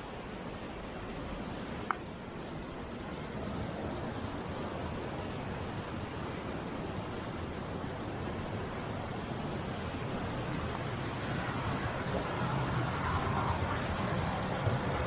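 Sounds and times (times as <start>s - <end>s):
stream and waterfall rushing: 0.0s - 15.0s.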